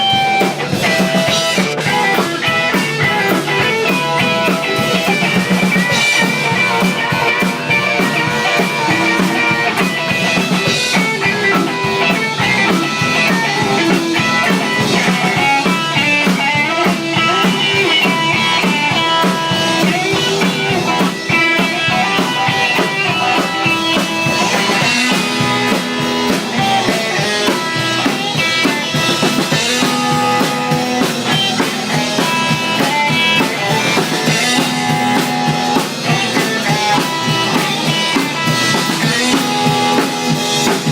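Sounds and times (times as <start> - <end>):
drum kit: 0.0 - 40.9
electric guitars: 0.0 - 40.9.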